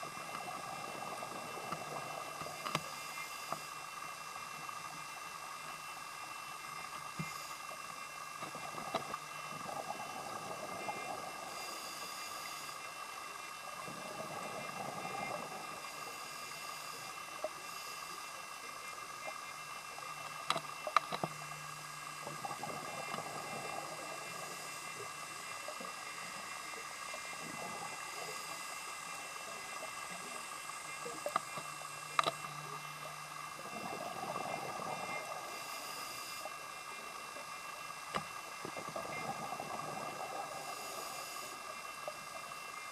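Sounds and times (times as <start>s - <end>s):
underwater hiss and hum: 0.0s - 42.9s.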